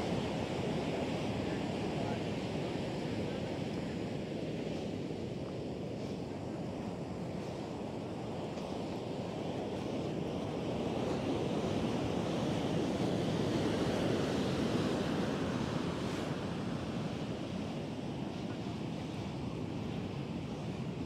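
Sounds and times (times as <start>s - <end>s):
surf washing onto beach: 0.0s - 21.0s.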